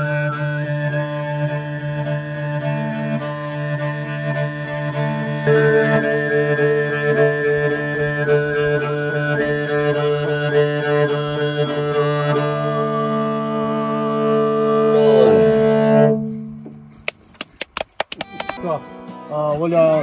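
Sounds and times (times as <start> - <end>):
throat singing drone: 0.0 - 17.0
bowed fiddle: 0.0 - 17.2, 18.1 - 20.0.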